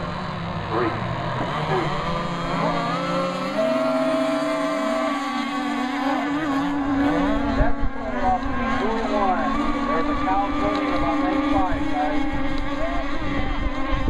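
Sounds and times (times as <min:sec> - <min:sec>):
model boat engines whining: 0:00.0 - 0:14.0.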